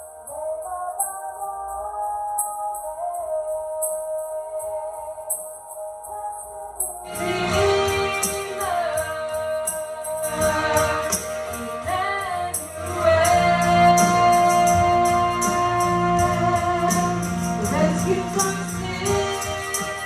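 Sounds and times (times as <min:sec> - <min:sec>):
tambourine shaken to a beat: 0:00.0 - 0:20.0
gospel singing: 0:00.4 - 0:20.0.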